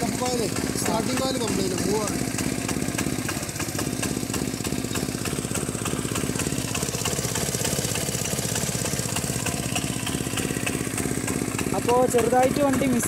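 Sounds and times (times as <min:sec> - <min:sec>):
scooter engine misfiring: 0:00.0 - 0:13.0.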